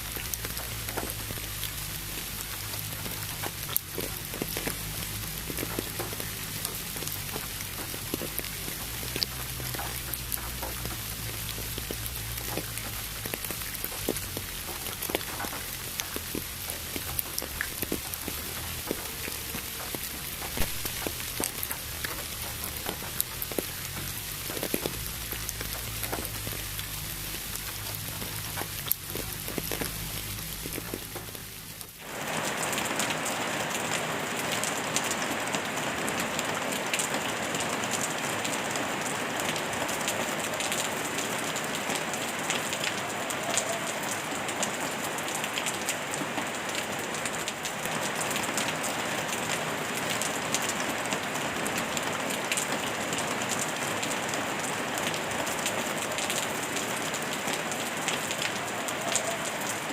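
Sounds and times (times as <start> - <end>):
heavy rain: 0.0 - 59.9
pink noise: 0.0 - 59.9.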